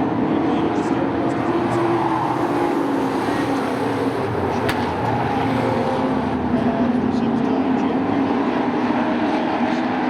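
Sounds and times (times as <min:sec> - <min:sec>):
racing truck engines droning: 0:00.0 - 0:10.0.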